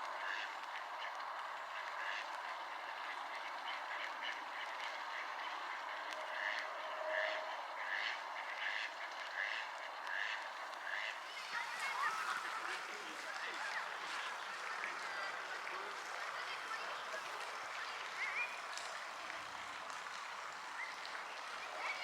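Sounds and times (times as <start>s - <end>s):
ducks quacking: 0.2s - 22.0s.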